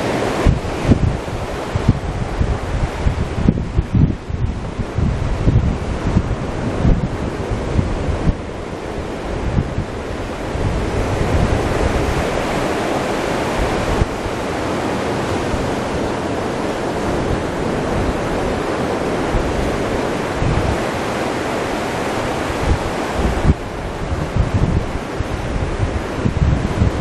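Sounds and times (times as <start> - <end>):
waves washing up a beach: 0.0 - 27.0
wind buffeting microphone: 0.0 - 27.0.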